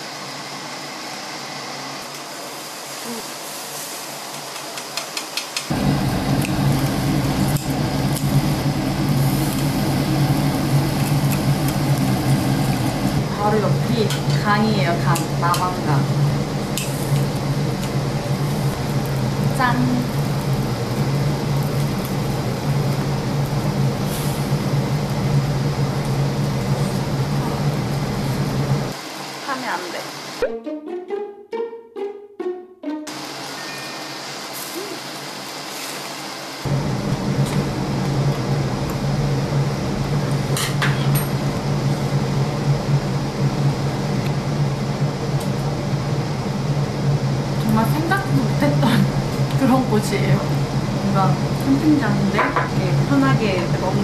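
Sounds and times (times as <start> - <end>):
low mechanical hum: 5.6 - 30.1, 33.2 - 54.0.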